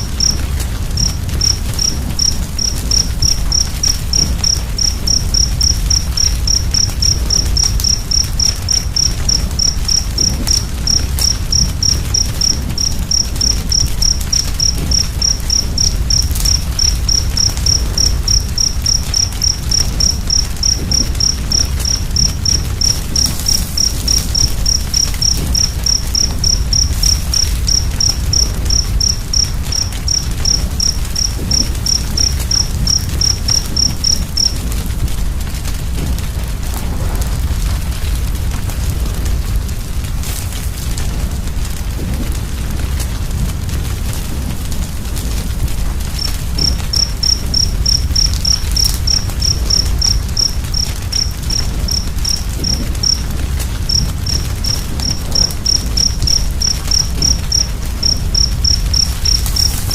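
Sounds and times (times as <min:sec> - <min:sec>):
cricket chirping: 0:00.0 - 0:39.5, 0:41.9 - 0:59.9
fire rumbling and crackling: 0:00.0 - 0:59.9.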